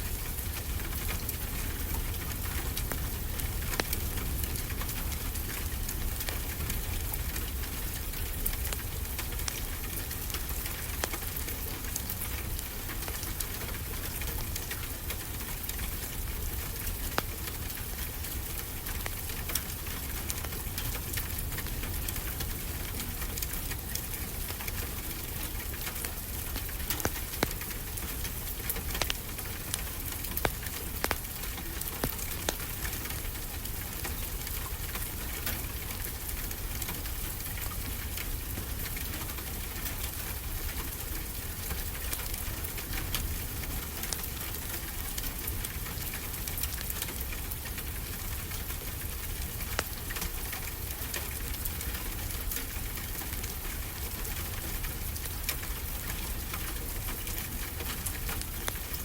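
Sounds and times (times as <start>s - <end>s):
rain hissing: 0.0s - 59.0s
wood fire crackling and popping: 0.0s - 59.0s.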